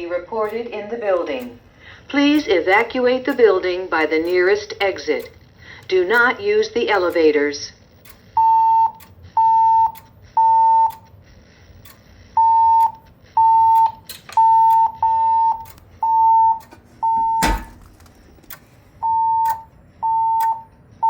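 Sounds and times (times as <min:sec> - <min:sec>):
evacuation alarm beeps: 0:00.3 - 0:21.0.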